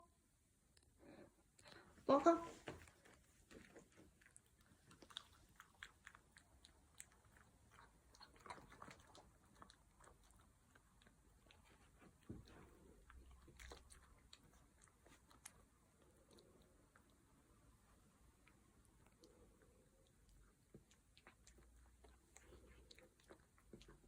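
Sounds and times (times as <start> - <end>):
dog chewing crunchy pastry: 2.8 - 17.1, 18.4 - 24.0.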